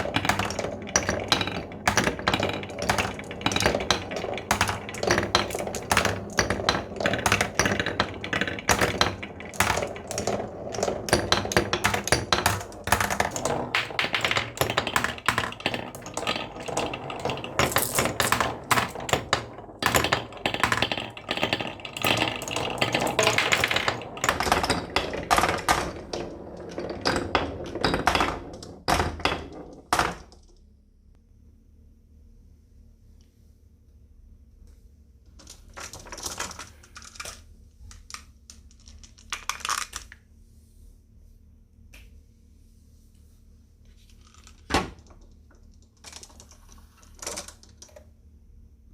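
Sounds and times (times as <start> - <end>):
marbles clattering down wooden track: 0.0 - 30.5, 35.4 - 40.2, 44.2 - 48.0.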